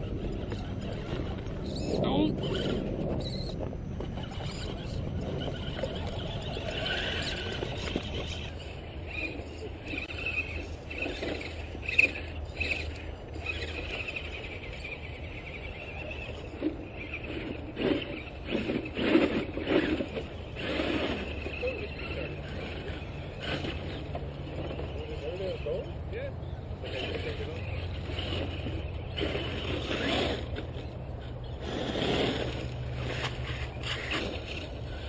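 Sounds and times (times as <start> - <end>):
electric motor and gears whining: 0.0 - 35.0.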